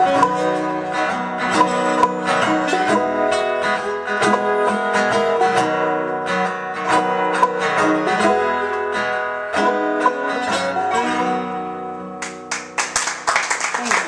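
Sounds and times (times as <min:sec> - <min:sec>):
acoustic guitar plucked and strummed: 0:00.0 - 0:13.2
acoustic folk music: 0:00.0 - 0:13.8.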